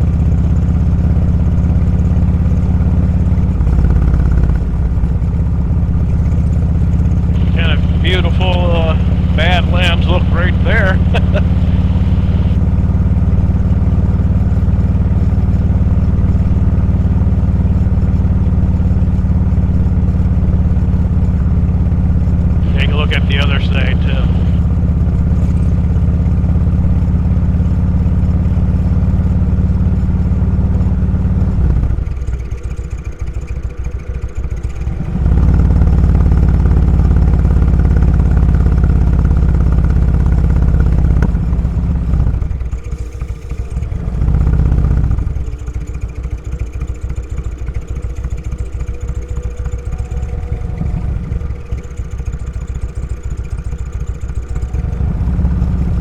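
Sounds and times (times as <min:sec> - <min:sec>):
motorcycle engine running: 0:00.0 - 0:09.4, 0:10.2 - 0:22.6, 0:24.6 - 0:56.0.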